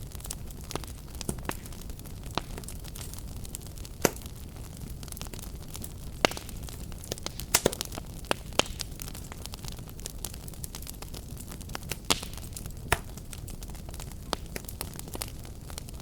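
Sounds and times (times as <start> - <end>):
fire crackling in a fireplace: 0.0 - 16.0.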